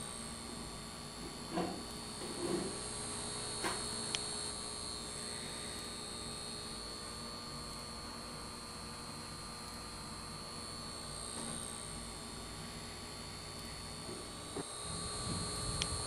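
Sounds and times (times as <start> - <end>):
high whine: 0.0 - 7.4, 9.5 - 16.0
droning hum: 0.0 - 16.0.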